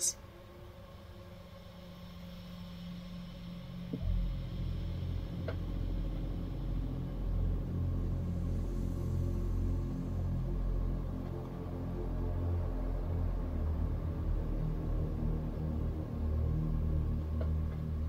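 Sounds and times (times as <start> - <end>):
deep low rumbling drone: 0.0 - 18.0
faint steady hum: 0.0 - 18.0.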